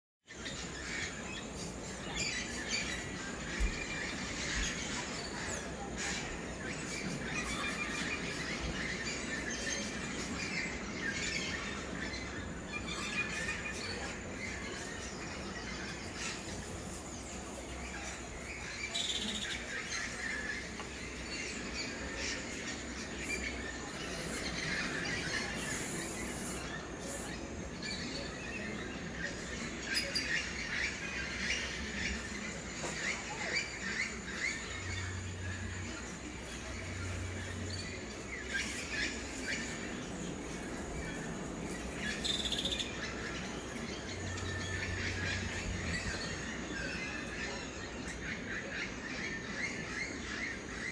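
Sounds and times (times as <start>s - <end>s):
birds calling and chirping: 0.3s - 50.9s
low background rush: 0.3s - 50.9s.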